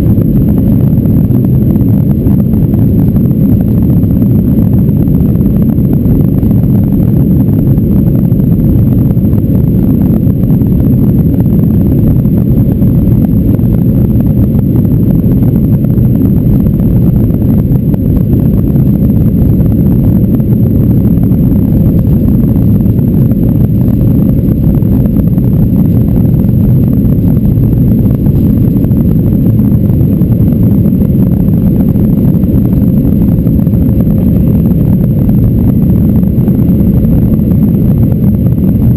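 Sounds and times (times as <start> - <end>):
jet engines deep rumble: 0.0 - 38.9.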